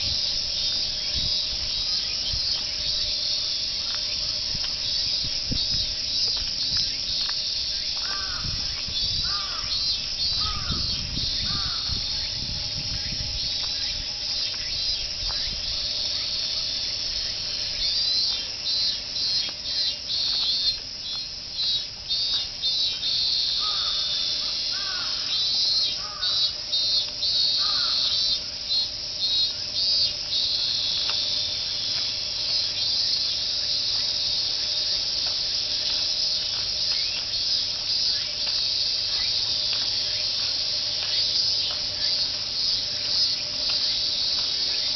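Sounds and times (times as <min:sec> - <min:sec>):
bird calling: 0:00.0 - 0:44.9
cicadas singing: 0:00.0 - 0:44.9.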